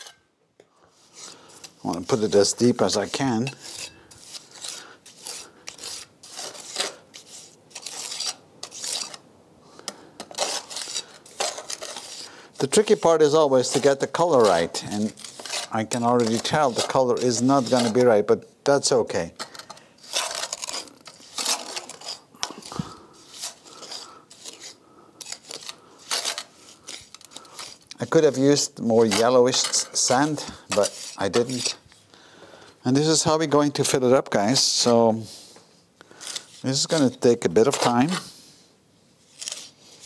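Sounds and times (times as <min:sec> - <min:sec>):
trowel scraping mortar: 0:00.0 - 0:00.2, 0:00.9 - 0:09.2, 0:10.2 - 0:31.8, 0:36.2 - 0:38.3, 0:39.3 - 0:40.0.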